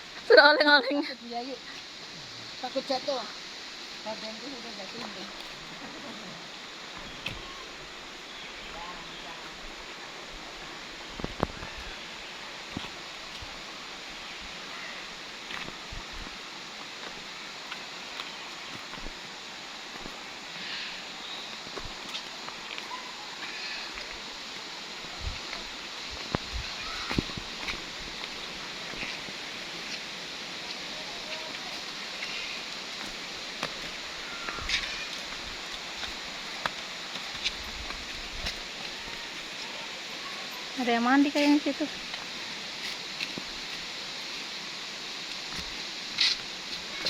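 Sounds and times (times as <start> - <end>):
stream water rushing: 0.0 - 47.0
wind and rustling: 0.0 - 47.0.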